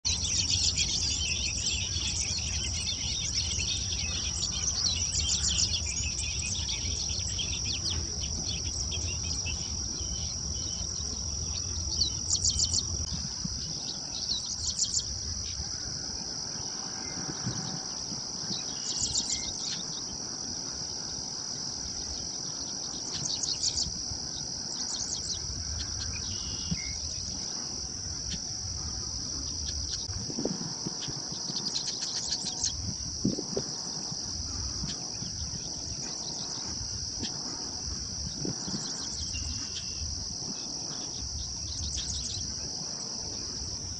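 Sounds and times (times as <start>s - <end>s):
high-pitched insect drone: 0.1s - 43.9s.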